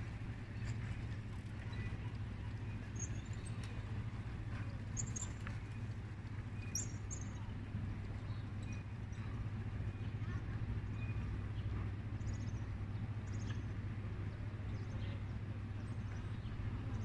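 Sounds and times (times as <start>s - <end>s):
street low rumble: 0.0s - 17.0s.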